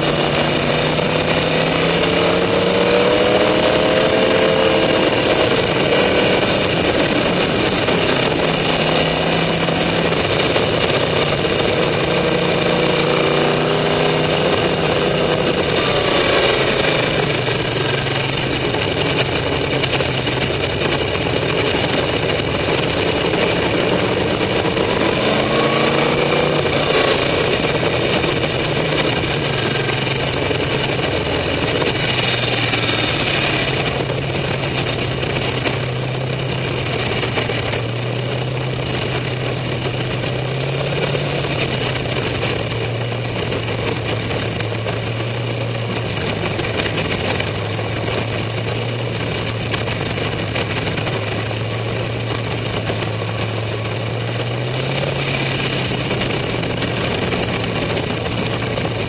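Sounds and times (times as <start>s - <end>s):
race car engine at low revs: 0.0s - 59.0s.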